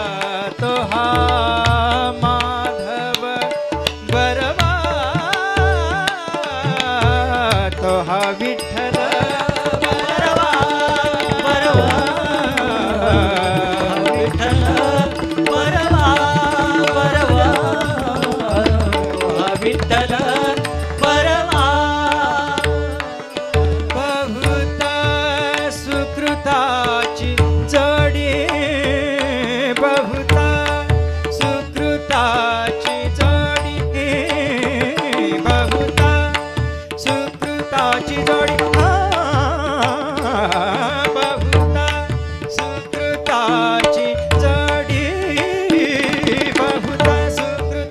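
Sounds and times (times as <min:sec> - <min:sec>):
harmonium holding a note: 0:00.0 - 0:47.9
man singing: 0:00.0 - 0:47.9.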